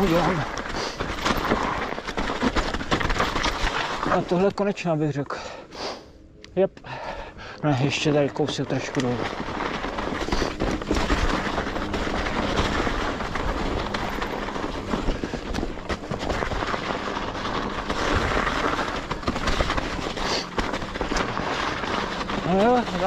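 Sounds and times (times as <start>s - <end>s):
bike rattling over bumps: 0.0s - 5.6s, 6.9s - 23.0s
bike tyres rolling on snow: 0.0s - 5.8s, 6.8s - 23.0s.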